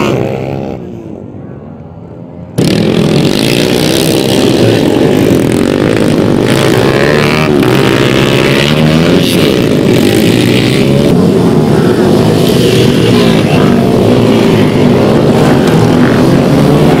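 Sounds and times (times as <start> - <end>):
dirt bike engines revving: 0.0 - 1.4, 2.4 - 17.0.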